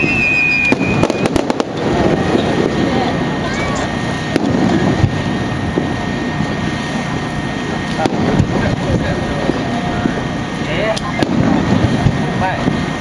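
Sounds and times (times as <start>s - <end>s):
crowd voices: 0.0s - 13.0s
fireworks bursting: 0.0s - 13.0s.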